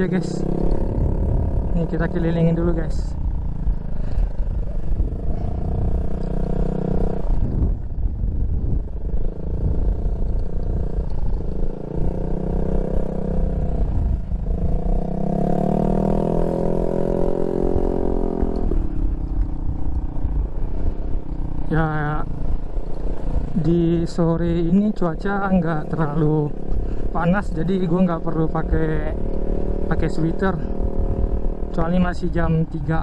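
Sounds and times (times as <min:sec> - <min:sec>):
motorcycle engine revving: 0:00.0 - 0:33.0
wind rumble on microphone: 0:00.0 - 0:33.0.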